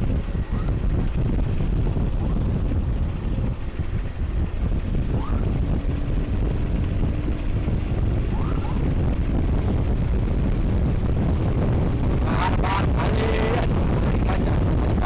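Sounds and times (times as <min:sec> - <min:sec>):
motorcycle engine and road rumble: 0:00.0 - 0:15.0
wind rushing over microphone: 0:00.0 - 0:15.0.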